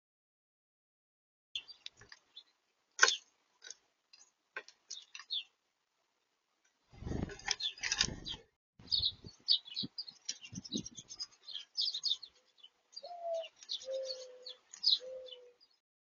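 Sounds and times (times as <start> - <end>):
small birds chirping: 1.6 - 5.6, 6.7 - 15.8.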